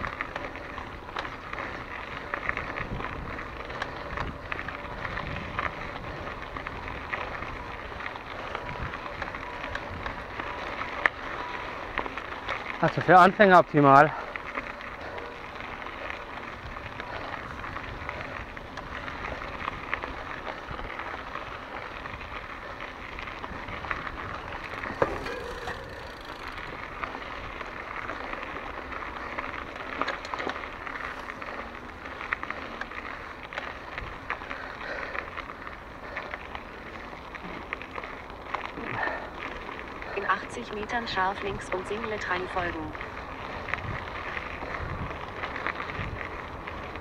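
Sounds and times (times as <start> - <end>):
bike rattling with small clicks: 0.0 - 47.0
bike tyres crackling over dirt: 0.0 - 47.0.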